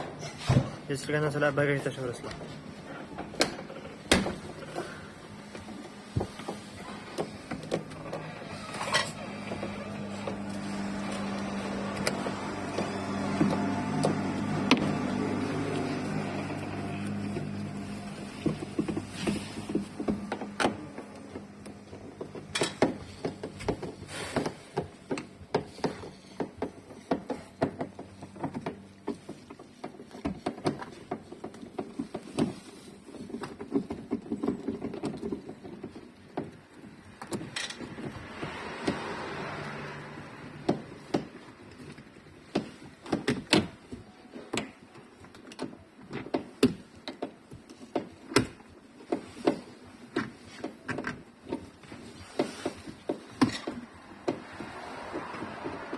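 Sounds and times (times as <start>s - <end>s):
plastic car trim rattling and clicking: 2.2s - 55.9s.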